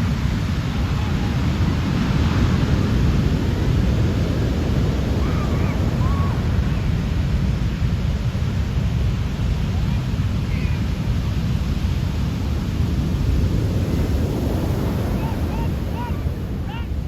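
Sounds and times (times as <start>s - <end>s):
ocean waves crashing: 0.0s - 17.0s
wind buffeting microphone: 0.0s - 17.0s.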